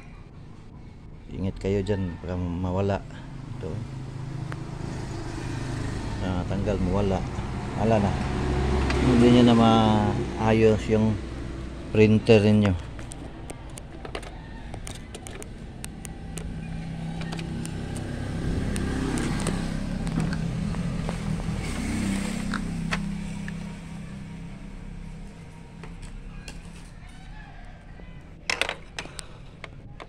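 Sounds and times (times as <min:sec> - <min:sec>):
vehicle engine passing: 0:02.8 - 0:28.5.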